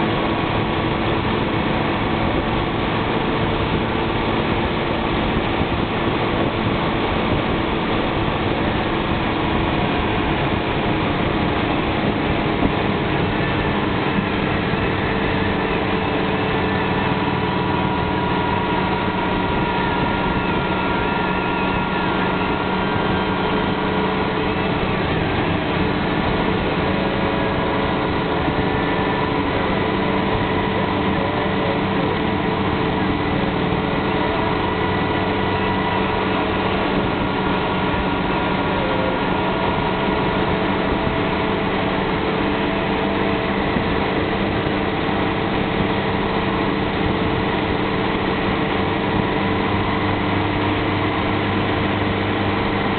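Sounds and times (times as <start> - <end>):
low hum: 0.0 - 52.9
motorcycle engine cruising: 0.0 - 52.9
wind and road noise: 0.0 - 52.9.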